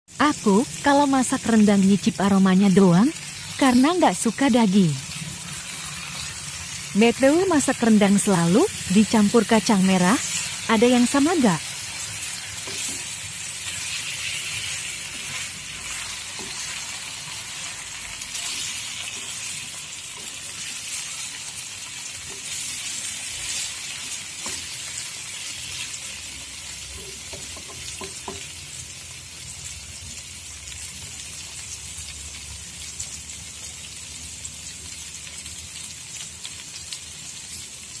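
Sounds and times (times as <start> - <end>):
meat sizzling in a pan: 0.1 - 38.0.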